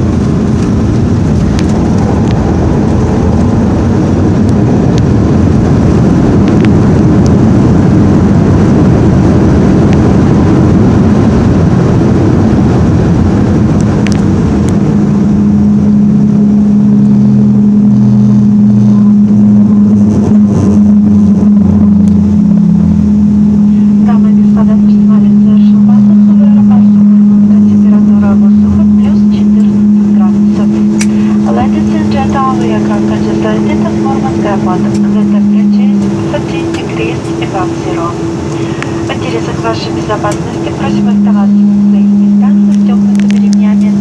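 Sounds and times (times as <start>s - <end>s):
aircraft engine roar and rumble: 0.0s - 44.0s.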